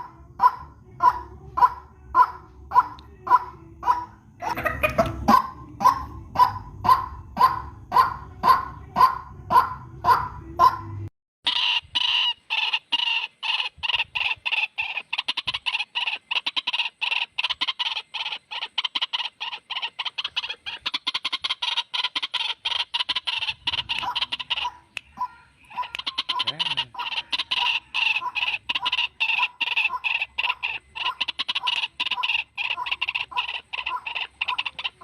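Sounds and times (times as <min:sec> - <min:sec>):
waterhen calls: 0:00.0 - 0:35.0.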